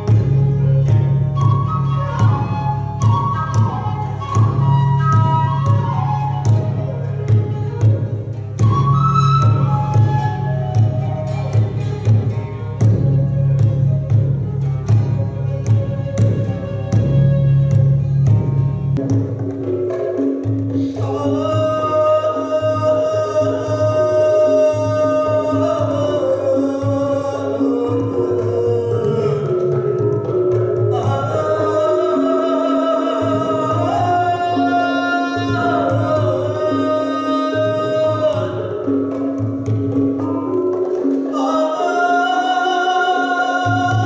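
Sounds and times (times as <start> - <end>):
gamelan ensemble playing: 0.0 - 44.0.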